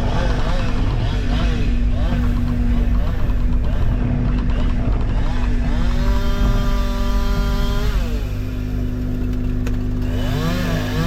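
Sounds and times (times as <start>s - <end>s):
engine revving: 0.0s - 11.0s
engines running: 0.0s - 11.0s.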